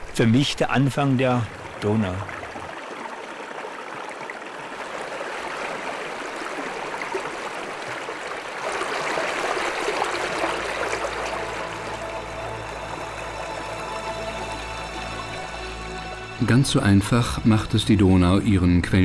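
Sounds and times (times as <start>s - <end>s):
brook trickling over stones: 0.0s - 16.4s.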